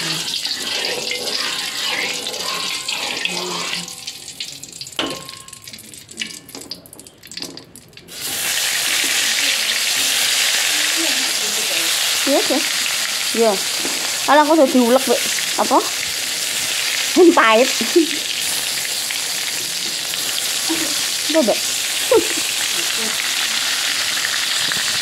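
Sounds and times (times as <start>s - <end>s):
hot oil hissing in a wok: 0.0s - 5.6s, 8.0s - 25.0s
food frying sizzle: 0.0s - 25.0s.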